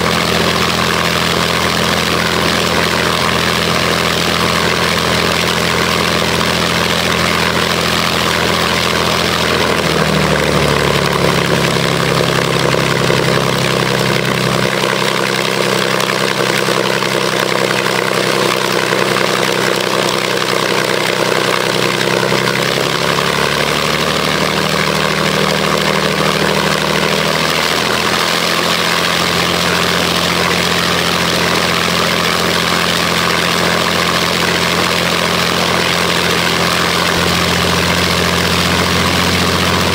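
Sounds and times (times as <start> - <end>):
aero engine running: 0.0 - 39.9.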